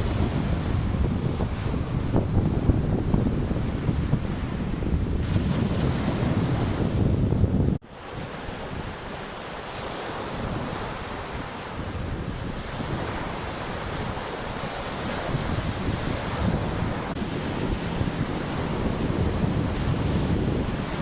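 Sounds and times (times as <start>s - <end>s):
sea waves washing: 0.0s - 21.0s
wind buffeting microphone: 0.0s - 21.0s.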